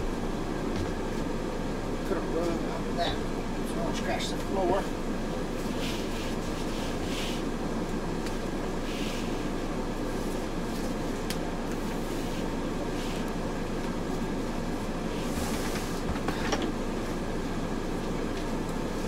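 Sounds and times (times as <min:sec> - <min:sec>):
steady mechanical drone: 0:00.0 - 0:19.0.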